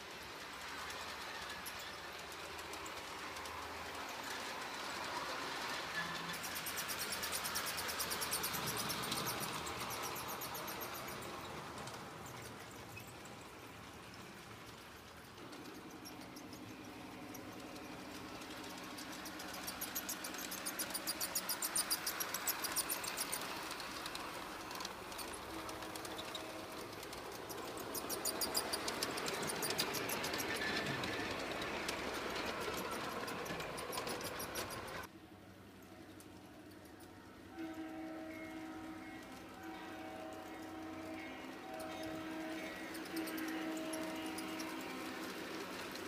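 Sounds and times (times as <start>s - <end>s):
model train motor hum: 0.0s - 35.1s, 35.8s - 46.0s
wheels clicking over track: 0.0s - 46.0s.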